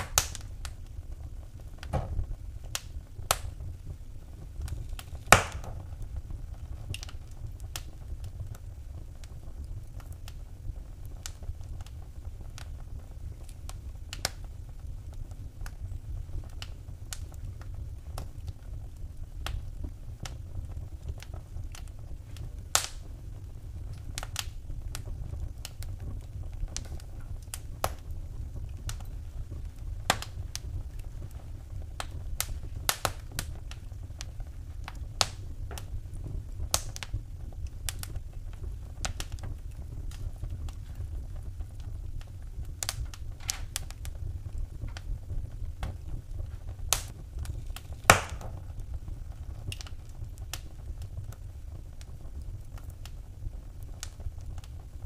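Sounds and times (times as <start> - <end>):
low steady rumble: 0.0 - 55.0
wood fire crackling: 0.0 - 55.0.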